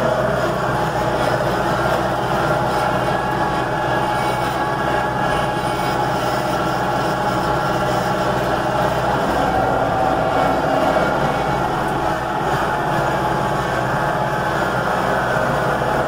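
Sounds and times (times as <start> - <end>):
vehicle engine hum from cab: 0.0 - 16.0.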